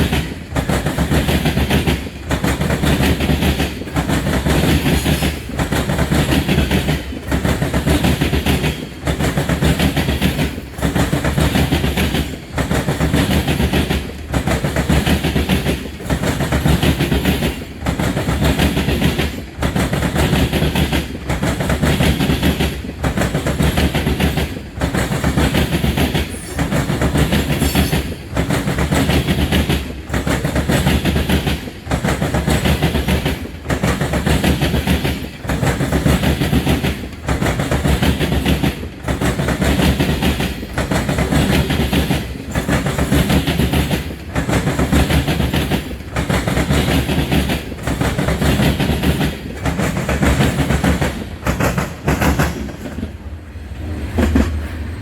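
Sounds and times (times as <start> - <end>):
train wheels clattering over rails: 0.0 - 55.0.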